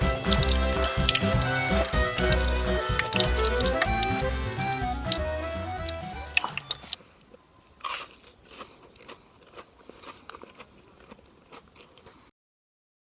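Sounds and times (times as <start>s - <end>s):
crunchy chewing: 0.0s - 12.3s.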